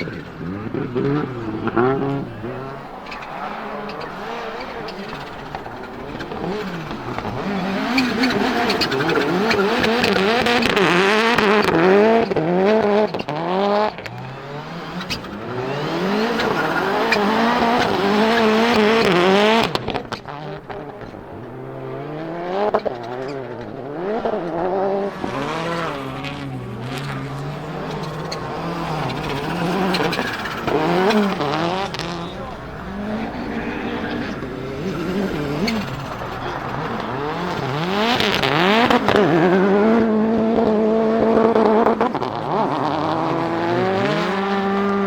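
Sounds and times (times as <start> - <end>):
exhaust cracks: 0.0 - 45.0
rally car engine revving: 0.0 - 45.0.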